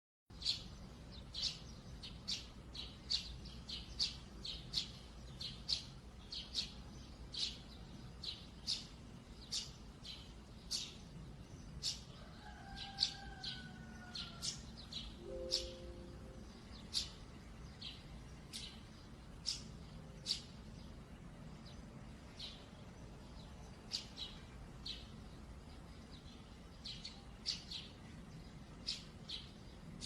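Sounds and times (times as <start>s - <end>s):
bird chirping: 0.3s - 30.0s.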